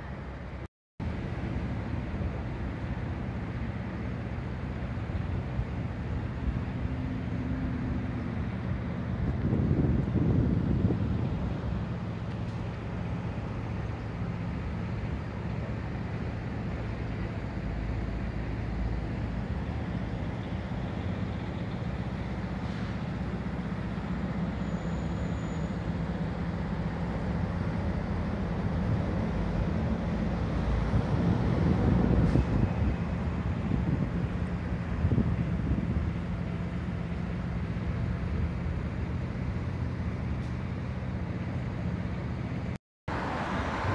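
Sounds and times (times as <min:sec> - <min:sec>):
traffic noise: 0:00.0 - 0:43.9.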